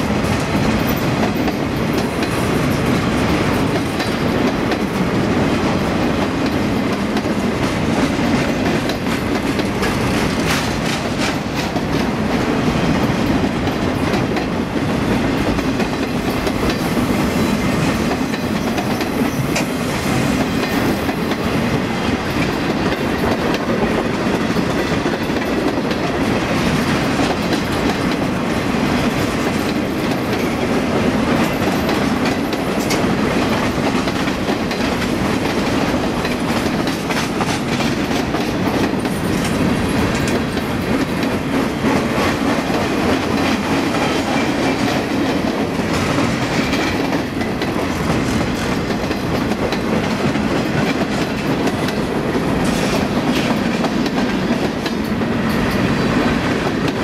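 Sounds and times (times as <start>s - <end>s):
steel wheels rumbling on rails: 0.0s - 57.0s
wheels clicking and clanking on track: 0.2s - 12.4s, 13.0s - 57.0s.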